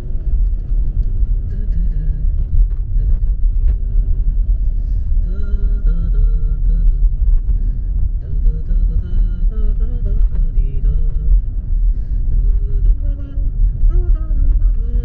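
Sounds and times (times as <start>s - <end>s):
car tyre and engine noise: 0.0s - 15.0s.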